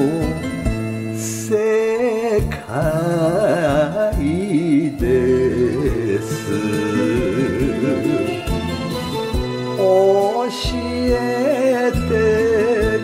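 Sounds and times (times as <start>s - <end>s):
vocal melody with vibrato: 1.2s - 13.0s.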